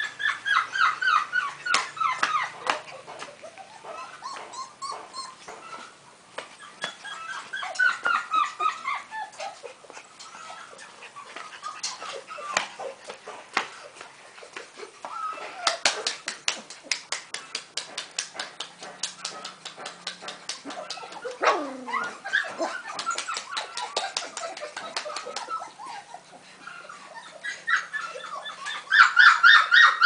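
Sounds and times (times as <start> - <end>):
puppies whimpering and yipping: 0.0 - 16.3, 18.9 - 30.0.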